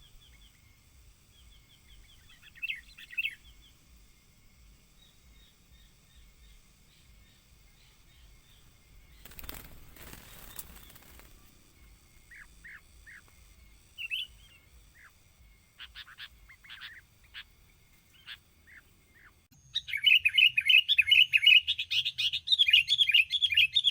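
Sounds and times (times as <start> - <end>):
bird chirping and chattering: 0.0 - 3.8, 4.9 - 23.9.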